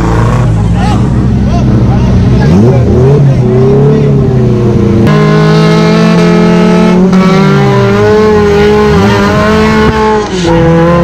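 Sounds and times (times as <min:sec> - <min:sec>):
off-road vehicle engines revving: 0:00.0 - 0:11.0.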